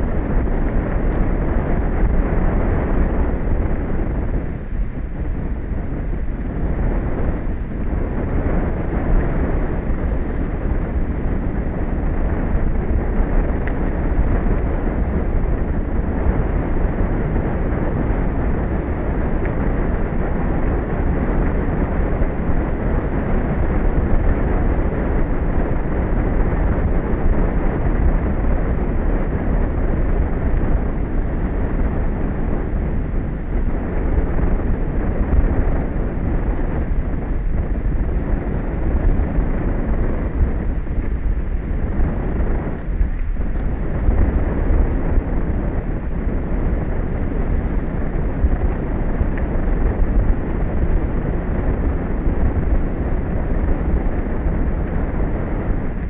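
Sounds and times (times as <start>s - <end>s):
wind blowing over microphone: 0.0s - 56.0s.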